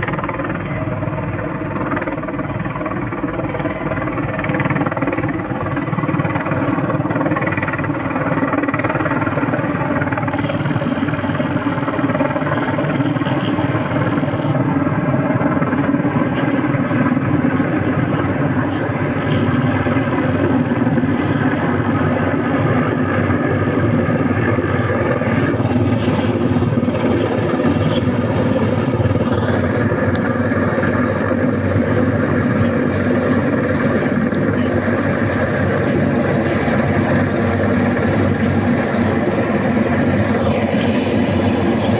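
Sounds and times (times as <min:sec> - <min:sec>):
helicopter rotor and engine drone: 0:00.0 - 0:41.9.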